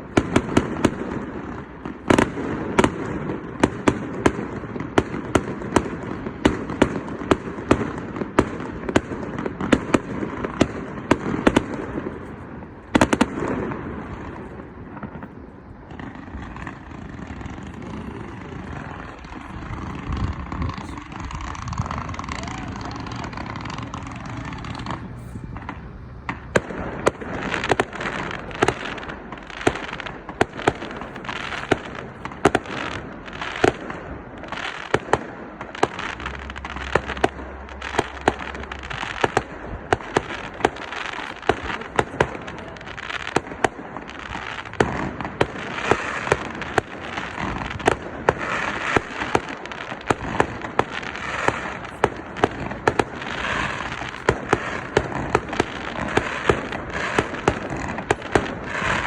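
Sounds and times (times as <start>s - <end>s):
continuous hiss: 0.0s - 59.0s
fireworks bangs: 0.0s - 59.0s.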